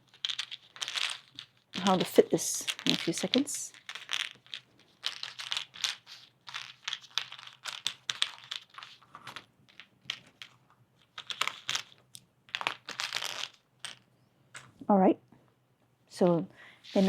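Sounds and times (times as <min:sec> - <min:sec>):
puzzle pieces clicking and rustling: 0:00.0 - 0:14.7.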